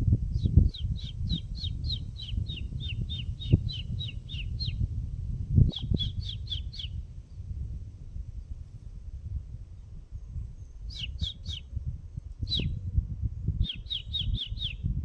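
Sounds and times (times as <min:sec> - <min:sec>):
low rumble: 0:00.0 - 0:15.0
songbird singing: 0:00.3 - 0:08.2, 0:09.7 - 0:14.9.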